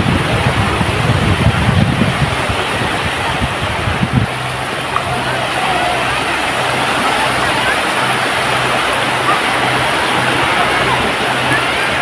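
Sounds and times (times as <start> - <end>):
small waves washing on beach: 0.0 - 12.0
wind buffeting microphone: 0.0 - 12.0.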